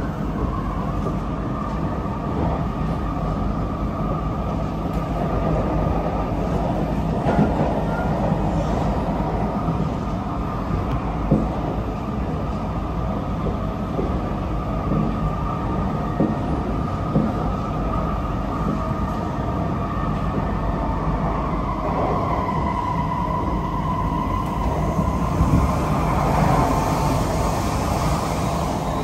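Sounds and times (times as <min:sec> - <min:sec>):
train rumble: 0:00.0 - 0:29.0.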